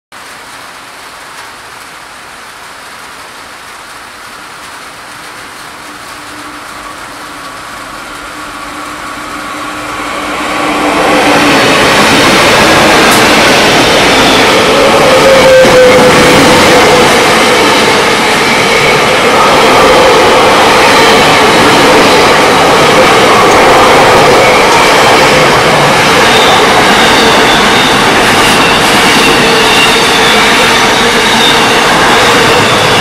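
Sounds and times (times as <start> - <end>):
train wagons rolling over rails: 4.6 - 33.0
diesel locomotives passing: 5.4 - 33.0.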